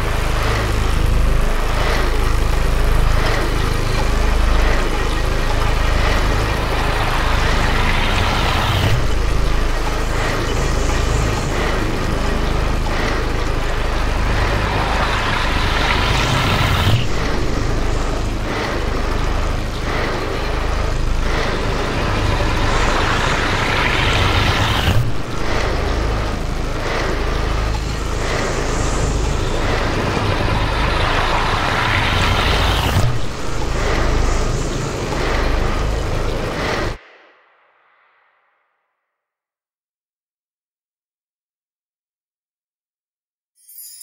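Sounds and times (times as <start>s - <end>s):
steady low engine rumble: 0.0s - 37.2s
whirring mechanical drone: 0.0s - 38.2s.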